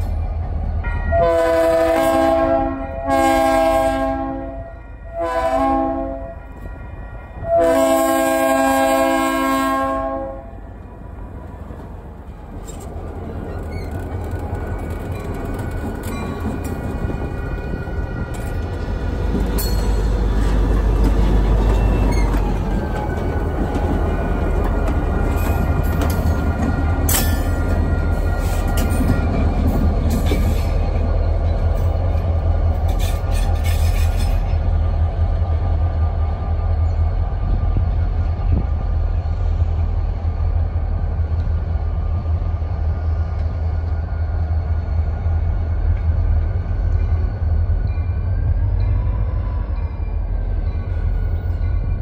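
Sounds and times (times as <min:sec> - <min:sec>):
diesel locomotive rumbling past: 0:00.0 - 0:52.0.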